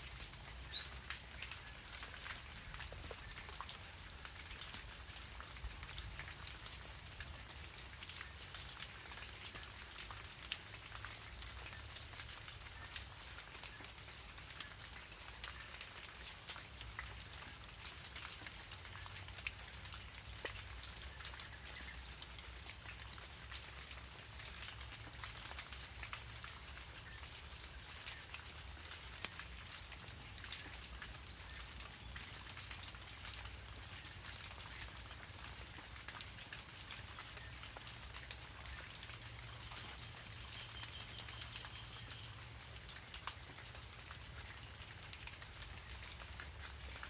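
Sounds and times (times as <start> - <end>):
rain falling: 0.0 - 47.0
raindrops tapping: 0.2 - 47.0.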